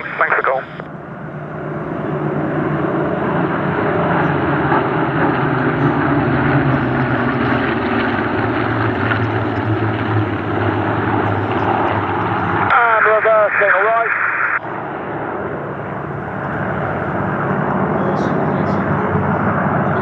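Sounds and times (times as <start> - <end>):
propeller planes droning past: 0.0 - 20.0.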